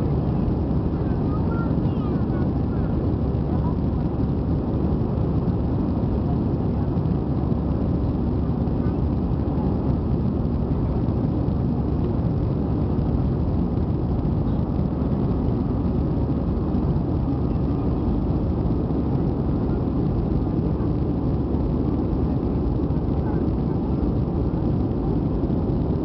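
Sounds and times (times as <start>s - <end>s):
jet engines and rushing air: 0.0s - 26.0s.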